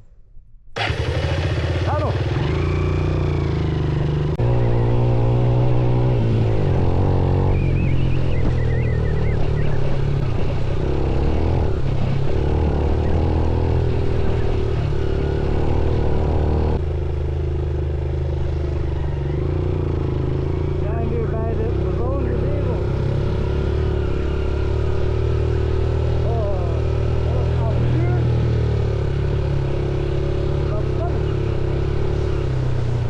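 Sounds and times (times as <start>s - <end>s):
motorcycle engine running: 0.8s - 33.0s.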